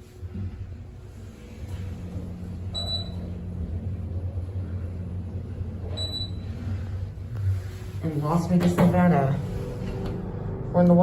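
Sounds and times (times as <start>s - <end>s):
car rumbling in parking garage: 0.3s - 11.0s.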